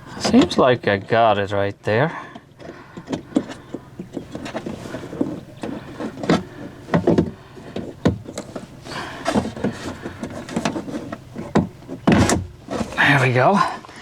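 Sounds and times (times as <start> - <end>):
rustling: 2.6 - 14.0.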